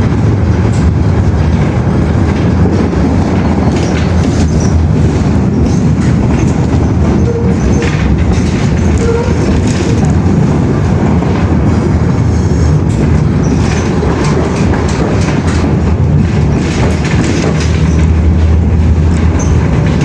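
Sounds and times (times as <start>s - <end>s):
rapid clicks and rattles: 0.0s - 20.0s
vehicle rumbling: 0.0s - 20.0s.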